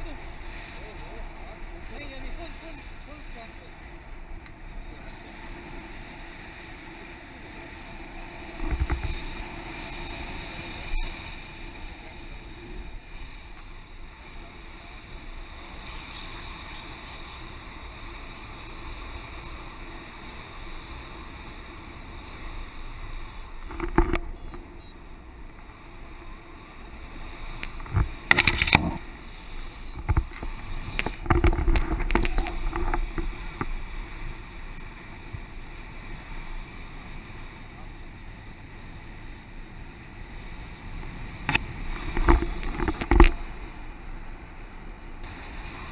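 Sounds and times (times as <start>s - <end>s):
wind buffeting gusts: 0.0s - 45.9s
wind rushing over microphone: 0.0s - 45.9s.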